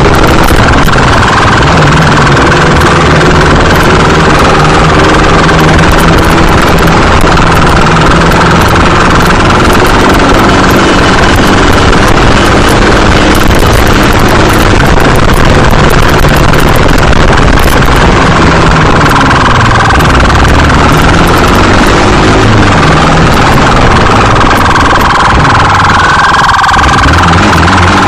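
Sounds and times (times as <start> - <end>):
motorcycle engine at speed: 0.0 - 28.0
wind rushing over microphone: 0.0 - 28.0.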